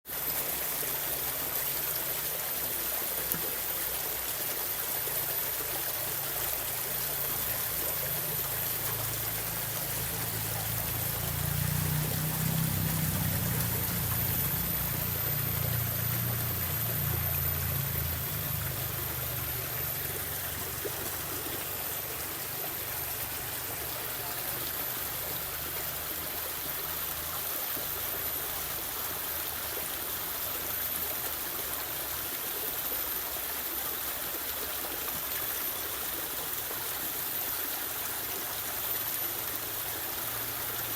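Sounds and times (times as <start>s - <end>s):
stream flowing: 0.1s - 40.9s.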